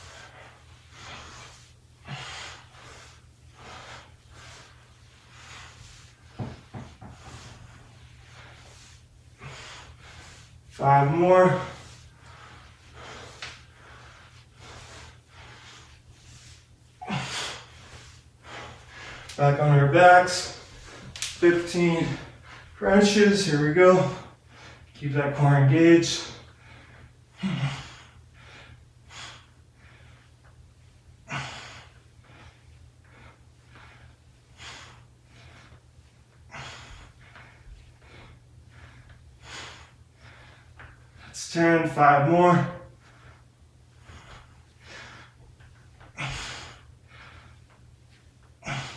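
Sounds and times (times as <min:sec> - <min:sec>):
man breathing hard: 0:00.0 - 0:25.0, 0:26.1 - 0:30.6, 0:31.2 - 0:41.5, 0:42.5 - 0:47.9, 0:48.5 - 0:48.9.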